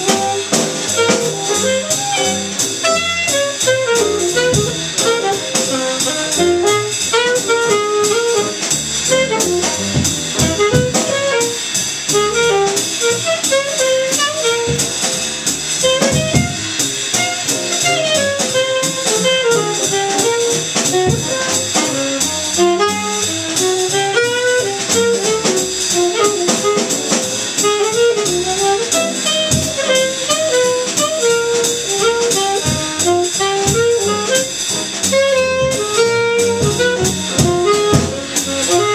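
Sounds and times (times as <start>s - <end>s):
saxophone solo: 0.0s - 38.9s
small jazz combo playing: 0.0s - 38.9s.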